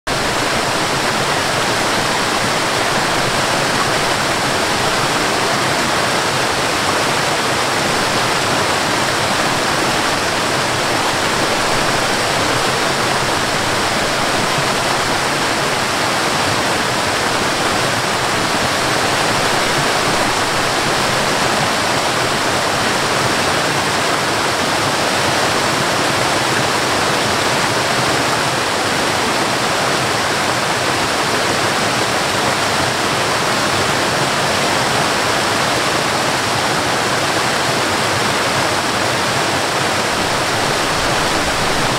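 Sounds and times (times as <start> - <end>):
waterfall rushing and splashing: 0.0 - 41.9.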